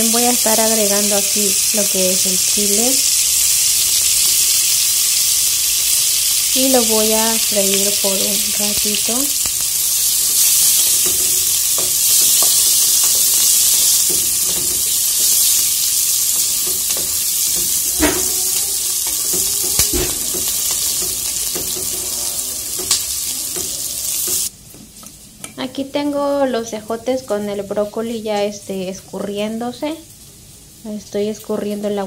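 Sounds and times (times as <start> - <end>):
onion sizzling in a pot: 0.0 - 32.0.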